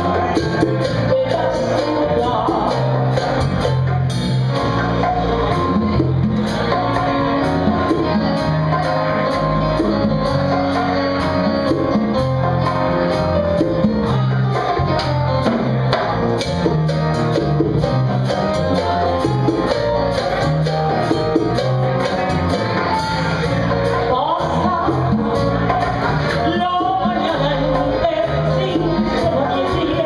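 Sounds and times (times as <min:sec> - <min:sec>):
conga drums: 0:00.0 - 0:30.0
live latin dance band: 0:00.0 - 0:30.0.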